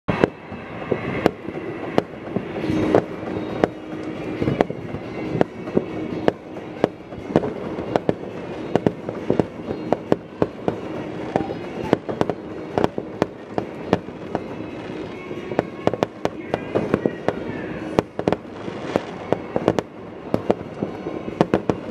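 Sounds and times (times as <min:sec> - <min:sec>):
fireworks bangs: 0:00.1 - 0:21.9
rumble of distant explosions: 0:00.1 - 0:21.9.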